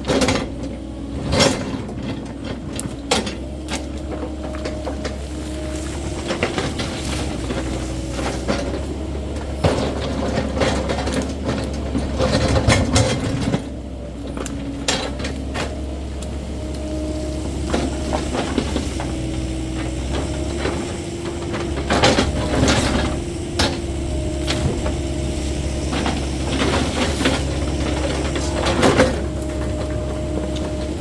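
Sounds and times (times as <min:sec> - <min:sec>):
diesel engine hum: 0:00.0 - 0:31.0
hydraulic whine: 0:00.0 - 0:31.0
machine clanks and knocks: 0:00.0 - 0:31.0.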